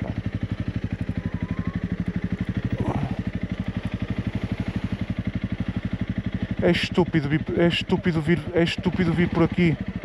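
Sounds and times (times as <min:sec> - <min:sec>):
motorcycle engine idling putter: 0:00.0 - 0:10.0.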